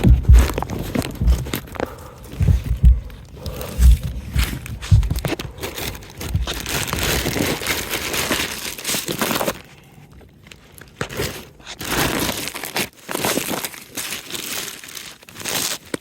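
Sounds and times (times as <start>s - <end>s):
plastic crinkling and rustling: 0.0s - 16.0s.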